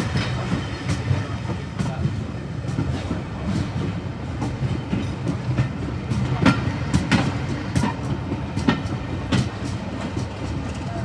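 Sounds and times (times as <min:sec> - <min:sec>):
train carriage rumble: 0:00.0 - 0:11.0
wheels clacking over rail joints: 0:00.0 - 0:11.0.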